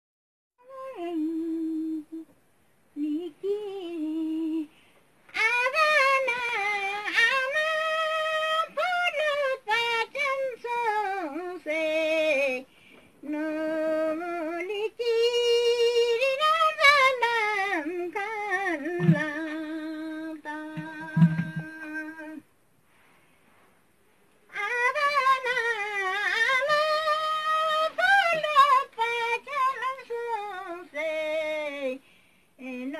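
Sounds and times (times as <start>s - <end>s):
woman singing unaccompanied: 0.6s - 22.5s, 24.5s - 32.9s.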